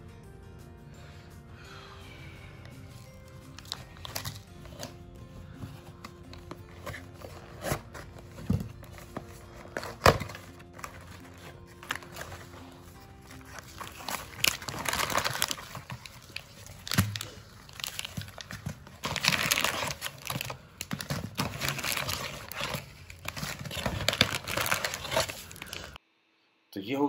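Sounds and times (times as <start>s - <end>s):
plastic foil sachets crinkling: 2.9s - 26.0s.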